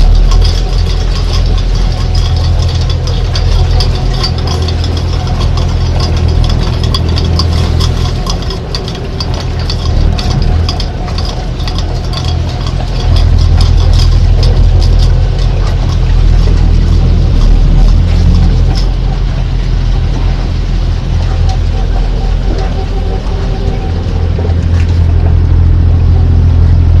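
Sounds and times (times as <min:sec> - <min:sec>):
boat engine droning: 0:00.0 - 0:27.0
gear rattling and clicking: 0:00.0 - 0:27.0.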